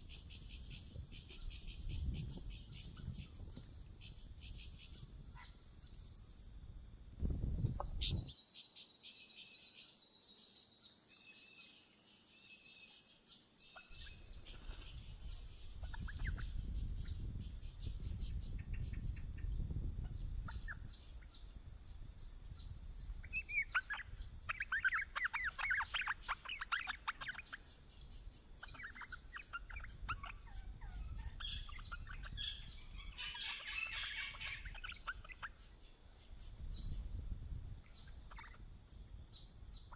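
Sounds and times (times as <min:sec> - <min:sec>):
birds chirping: 0:00.0 - 0:08.7, 0:09.3 - 0:39.9.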